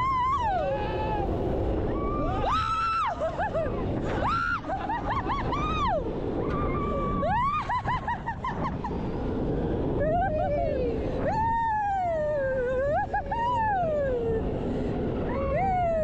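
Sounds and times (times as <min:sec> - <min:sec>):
riders whooping and screaming: 0:00.0 - 0:16.0
roller coaster train rumble: 0:00.0 - 0:16.0
wind rush: 0:00.0 - 0:16.0.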